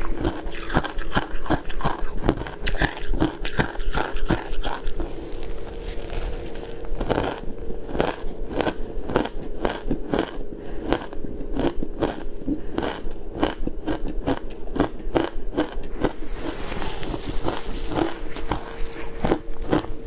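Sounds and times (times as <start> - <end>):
crunchy chewing of shaved ice: 0.0 - 20.0.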